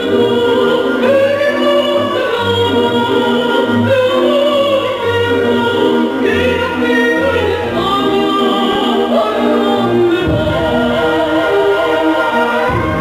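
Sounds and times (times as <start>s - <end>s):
concert wind band playing: 0.0s - 13.0s.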